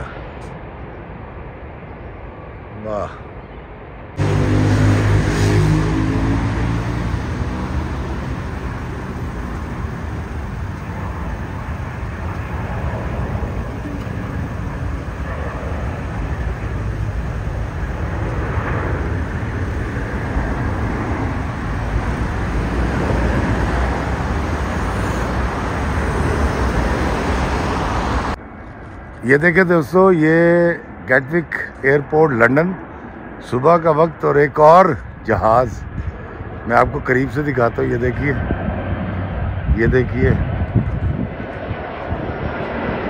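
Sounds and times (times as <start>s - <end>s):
jet airliner engine: 0.0s - 43.0s
road traffic rumble: 0.0s - 43.0s.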